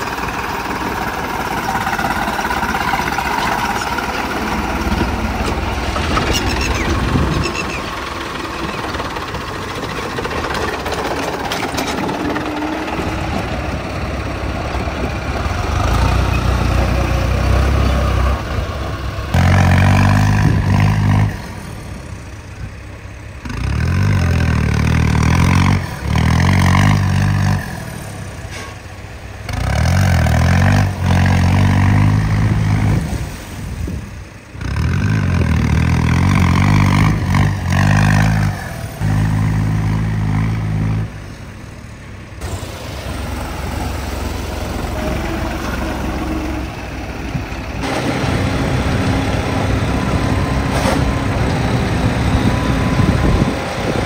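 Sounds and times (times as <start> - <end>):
heavy diesel machinery engines: 0.0 - 54.0.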